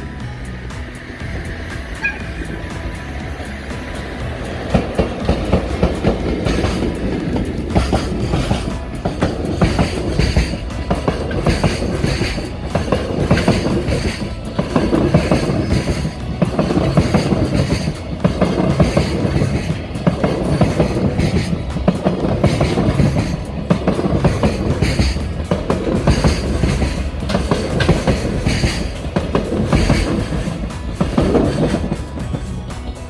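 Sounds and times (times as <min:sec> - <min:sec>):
freight train wheels clattering: 0:00.0 - 0:33.0.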